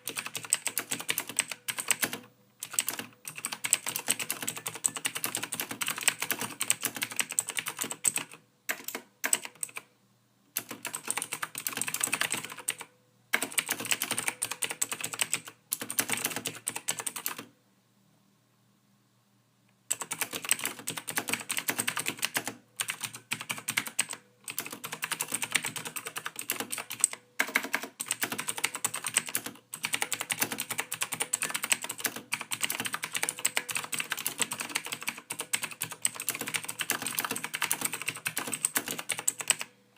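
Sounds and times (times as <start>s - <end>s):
keyboard typing: 0.0s - 9.9s, 10.6s - 17.5s, 19.9s - 39.7s.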